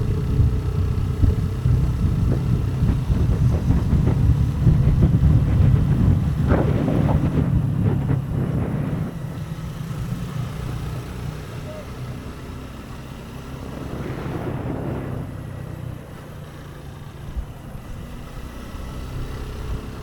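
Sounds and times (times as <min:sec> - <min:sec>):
wind buffeting microphone: 0:00.0 - 0:11.3, 0:12.5 - 0:20.0
motorcycle engine rumble: 0:00.0 - 0:20.0.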